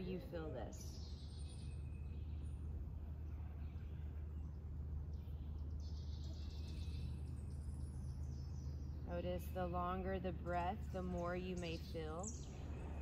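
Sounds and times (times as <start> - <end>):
birds chirping trill: 0.0 - 13.0
low outdoor rumble: 0.0 - 13.0.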